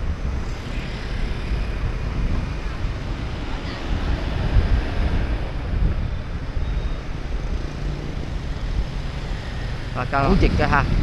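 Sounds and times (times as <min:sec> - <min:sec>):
road traffic: 0:00.0 - 0:11.0
wind rumbling on microphone: 0:00.0 - 0:11.0.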